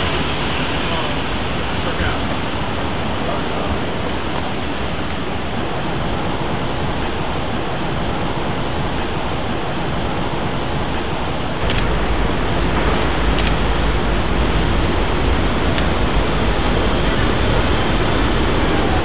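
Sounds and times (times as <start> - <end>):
traffic roar: 0.0 - 19.0.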